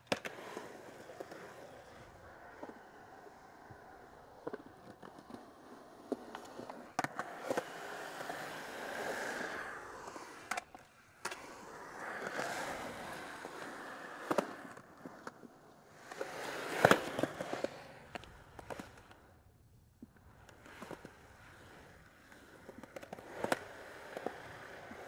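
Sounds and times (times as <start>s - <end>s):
skateboard clacking on ground: 0.0s - 19.4s, 20.0s - 25.0s
skateboard wheels rolling on concrete: 0.0s - 25.0s.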